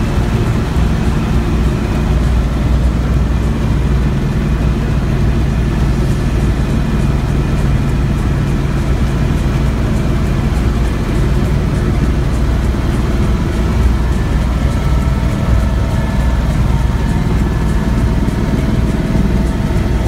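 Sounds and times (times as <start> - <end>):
helicopter engine and rotor drone: 0.0 - 20.0
rushing air: 0.0 - 20.0.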